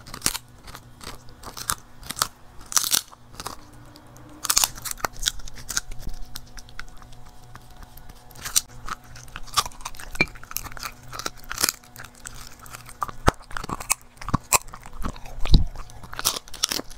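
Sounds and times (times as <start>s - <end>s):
dog chewing and crunching meat: 0.0s - 16.9s.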